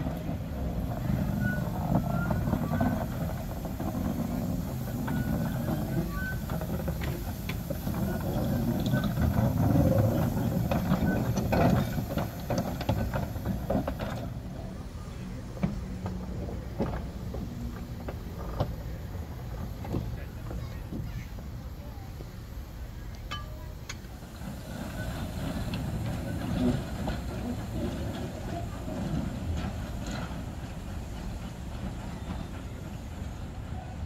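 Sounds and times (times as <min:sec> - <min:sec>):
clanks and knocks from wheels: 0:00.0 - 0:21.5, 0:23.2 - 0:34.0
steam locomotive rumbling past: 0:00.0 - 0:34.0.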